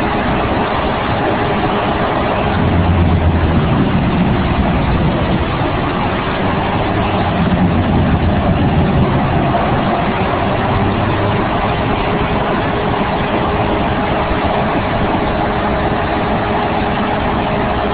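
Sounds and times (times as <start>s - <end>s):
large diesel engine humming: 0.0s - 17.9s.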